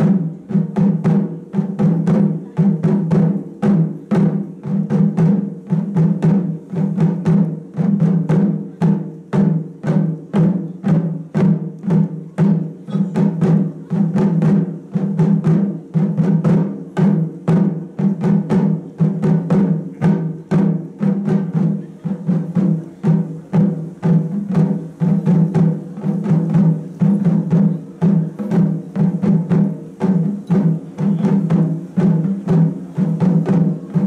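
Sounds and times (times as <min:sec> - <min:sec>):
ensemble drumming: 0:00.0 - 0:34.0.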